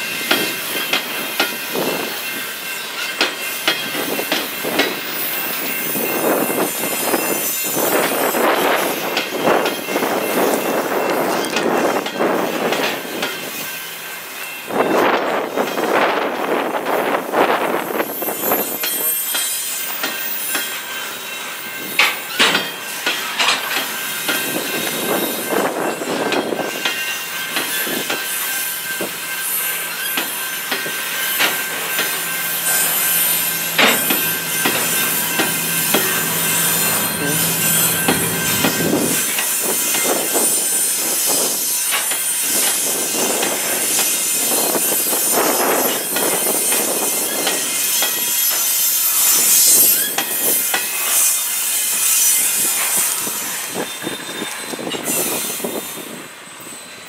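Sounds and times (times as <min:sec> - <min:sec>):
high wheel squeal: 0:00.0 - 0:12.1, 0:17.3 - 0:57.0
wheels clicking over rail joint: 0:00.1 - 0:55.8.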